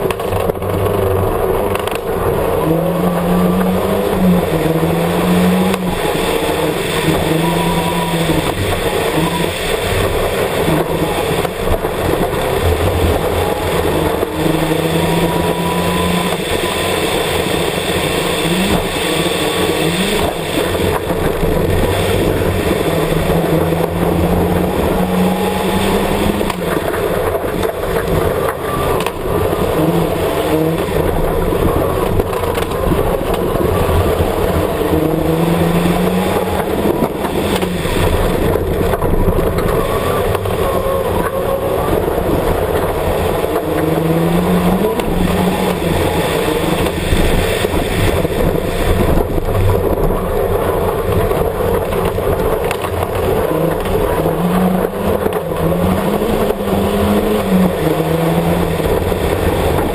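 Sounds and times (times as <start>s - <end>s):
gravel and tyre noise: 0.0s - 59.9s
rally car engine revving: 0.0s - 59.9s.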